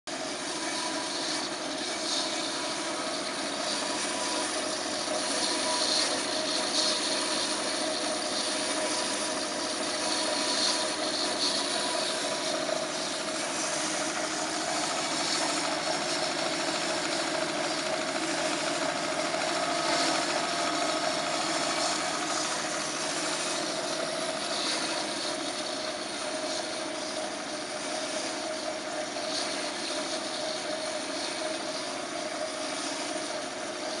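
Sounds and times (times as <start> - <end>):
bandsaw motor hum: 0.1 - 34.0
bandsaw blade hiss: 0.3 - 34.0.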